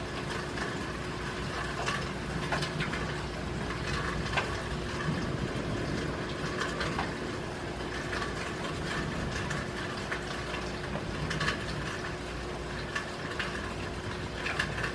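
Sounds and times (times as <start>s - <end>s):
close drips and splashes: 0.0s - 14.9s
rain falling: 0.0s - 14.9s.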